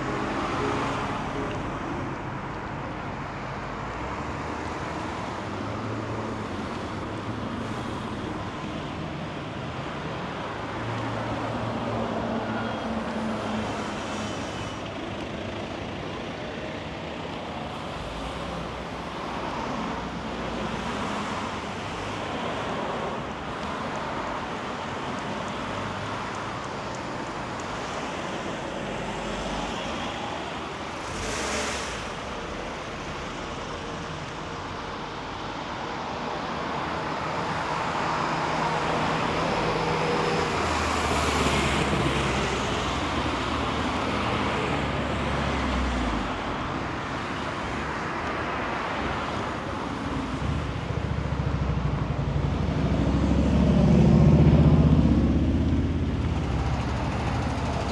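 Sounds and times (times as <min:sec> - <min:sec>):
cars passing: 0:00.0 - 0:57.9
vehicle engine hum: 0:00.0 - 0:57.9.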